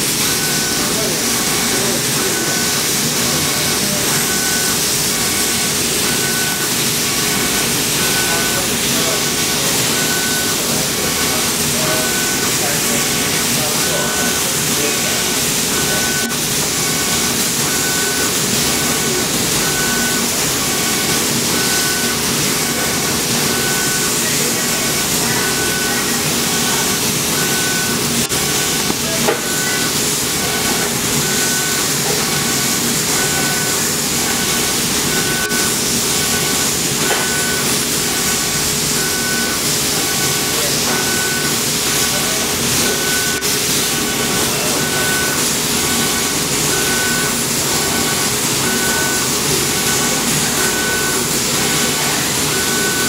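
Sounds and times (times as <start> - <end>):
laser cutter hissing: 0.0 - 53.0.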